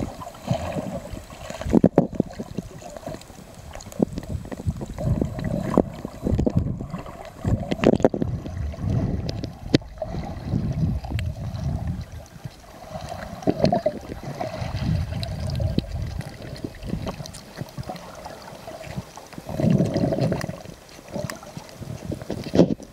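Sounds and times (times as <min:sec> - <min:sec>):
muffled underwater water sloshing: 0:00.0 - 0:22.9.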